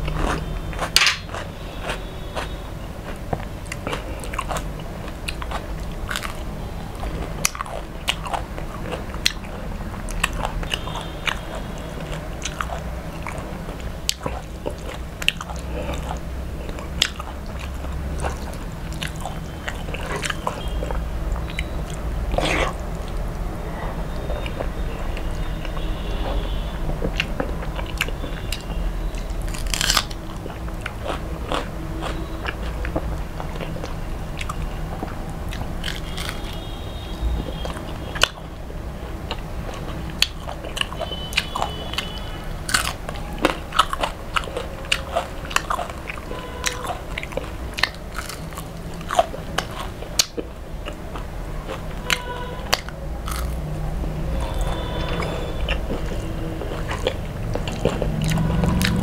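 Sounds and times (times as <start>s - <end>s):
chewing and crunching fried food: 0.0s - 59.0s.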